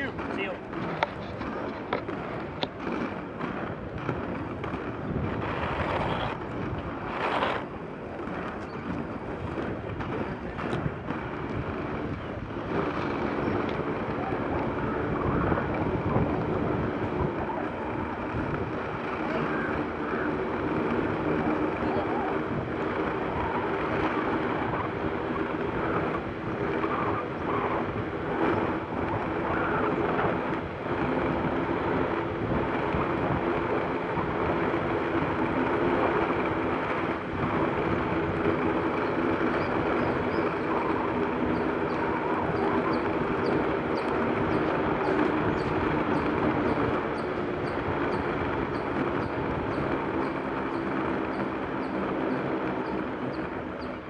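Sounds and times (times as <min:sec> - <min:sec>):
skate wheels rolling on asphalt: 0:00.0 - 0:54.0.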